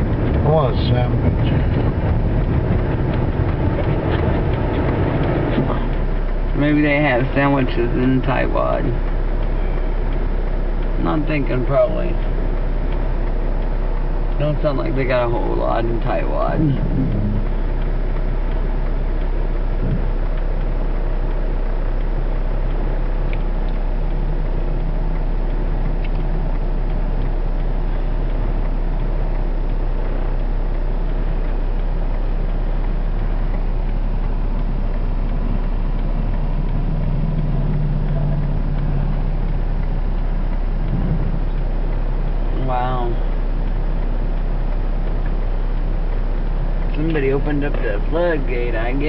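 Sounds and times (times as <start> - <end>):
car idling inside cabin: 0.0 - 49.0
low hum: 0.0 - 49.0.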